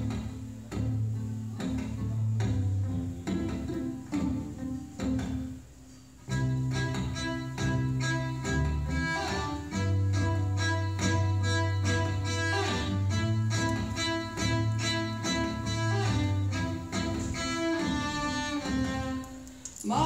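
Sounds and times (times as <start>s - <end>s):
layered cello loops: 0.0s - 20.0s.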